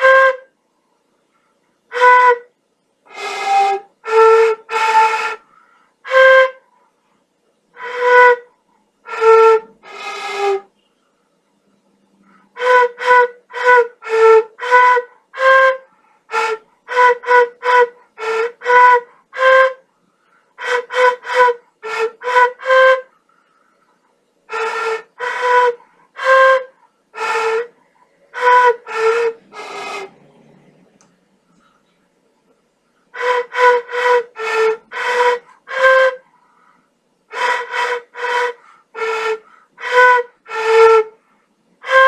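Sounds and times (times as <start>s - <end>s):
notched flute melody: 0.0s - 0.6s, 1.8s - 6.9s, 7.7s - 11.1s, 12.1s - 23.7s, 24.4s - 32.0s, 33.1s - 42.0s.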